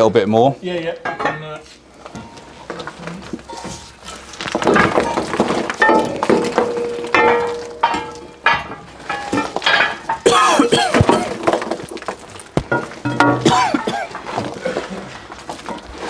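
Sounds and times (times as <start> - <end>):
metal tools clinking and scraping: 0.9 - 16.0.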